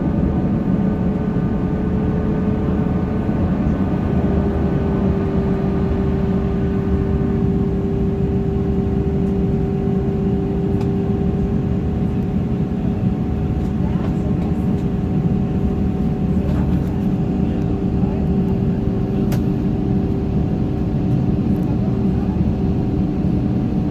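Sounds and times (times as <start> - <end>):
jet engine cabin rumble: 0.0 - 23.9.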